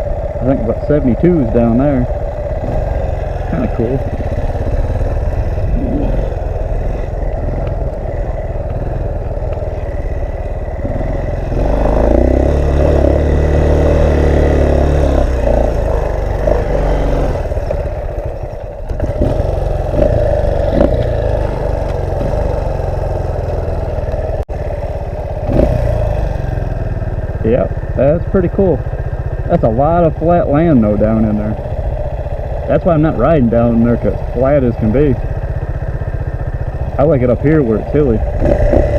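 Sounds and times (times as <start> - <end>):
vehicle engine at low revs: 0.0 - 38.9.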